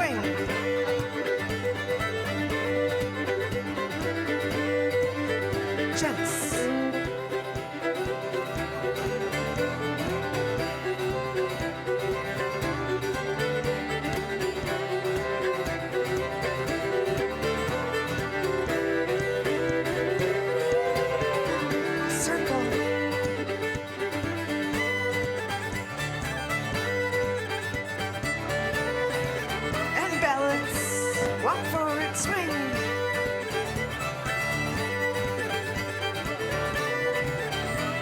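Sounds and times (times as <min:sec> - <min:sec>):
fiddle lead: 0:00.0 - 0:38.0
strummed guitar: 0:00.0 - 0:38.0.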